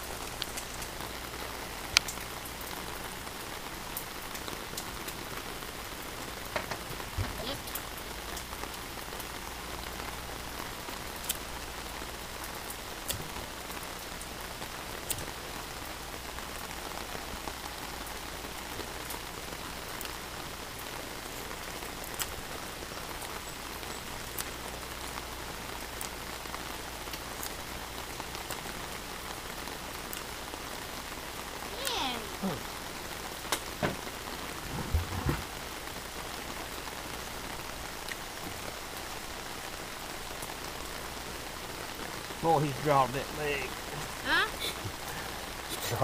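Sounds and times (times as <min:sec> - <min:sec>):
rain on an umbrella: 0:00.0 - 0:46.0.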